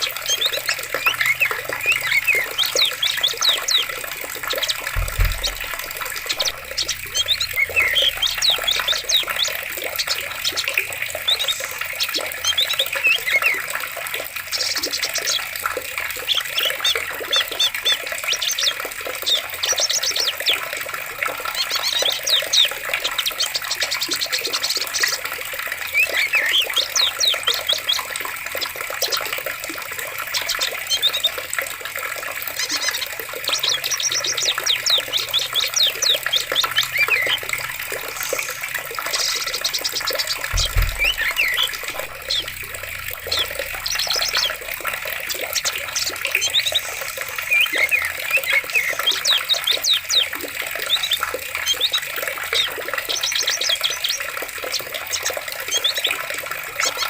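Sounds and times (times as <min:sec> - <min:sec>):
birds chirping and trilling: 0:00.0 - 0:57.0
running water: 0:00.0 - 0:57.0.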